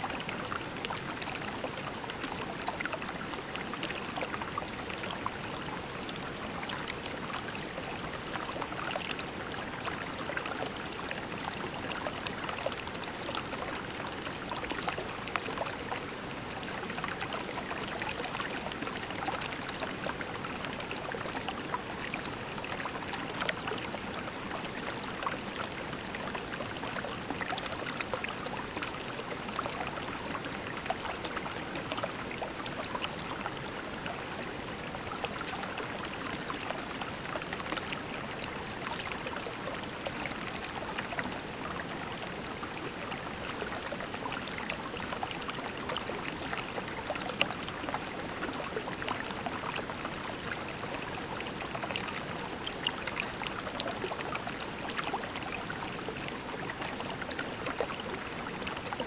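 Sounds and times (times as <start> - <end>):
creek flowing over pebbles: 0.0 - 59.0.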